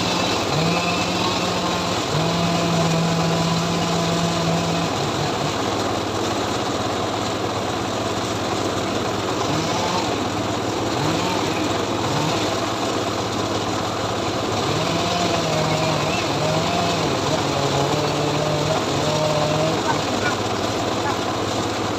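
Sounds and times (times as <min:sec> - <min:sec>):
engine-driven log saw running: 0:00.0 - 0:21.9.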